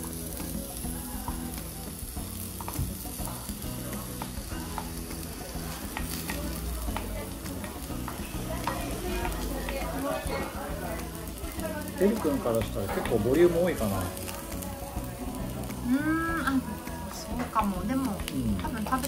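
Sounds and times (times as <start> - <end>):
batter sizzling on griddle: 0.0 - 19.0.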